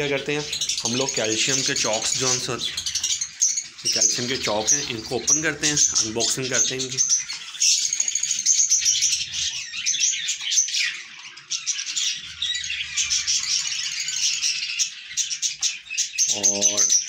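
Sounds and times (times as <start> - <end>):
parrots chirping and warbling: 0.0 - 17.0.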